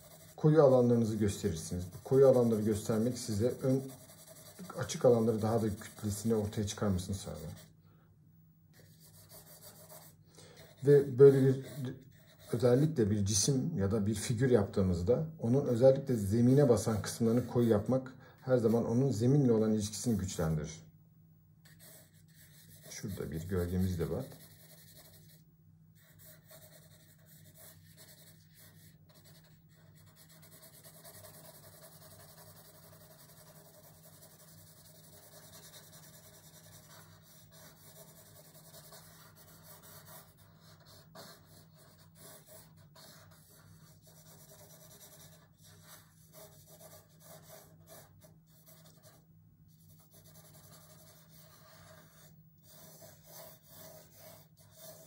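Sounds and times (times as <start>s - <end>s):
pencil scratching on paper: 0.0s - 7.7s, 8.8s - 13.0s, 15.7s - 17.9s, 21.6s - 25.4s, 26.0s - 55.0s
low steady hum: 0.0s - 55.0s.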